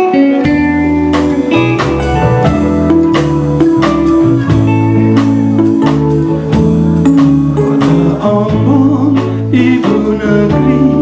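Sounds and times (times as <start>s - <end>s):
bass: 0.0s - 11.0s
guitar: 0.0s - 11.0s
keyboard chords: 0.0s - 11.0s
drum beat: 0.5s - 11.0s.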